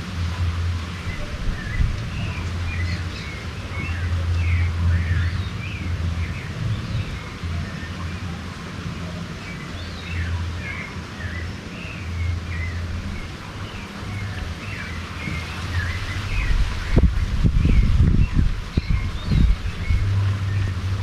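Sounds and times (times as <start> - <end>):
low steady rumble: 0.0 - 21.0
wind buffeting microphone: 0.0 - 21.0
birds chirping: 0.4 - 21.0.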